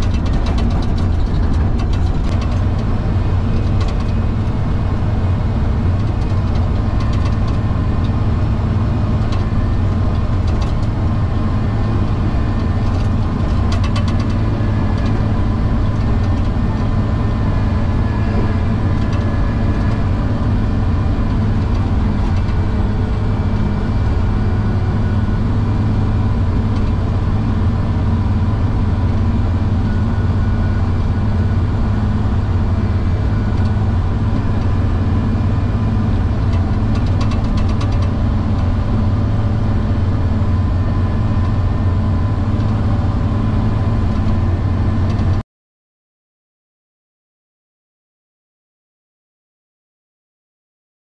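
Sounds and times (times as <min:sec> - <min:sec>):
bulldozer diesel engine drone: 0:00.0 - 0:45.4.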